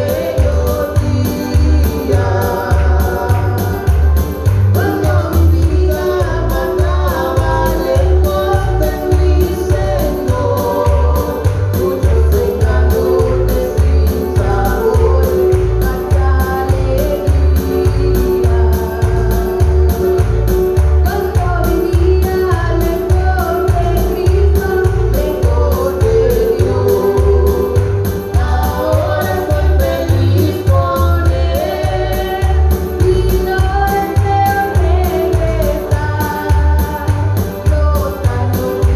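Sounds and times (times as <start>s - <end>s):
hymn singing: 0.0s - 38.9s
pulsing bass beat: 0.0s - 38.9s.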